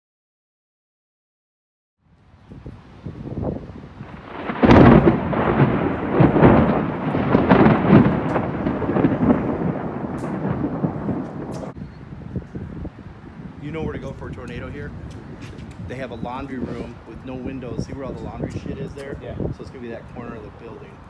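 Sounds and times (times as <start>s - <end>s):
thunder crack and rumble: 3.1s - 21.0s.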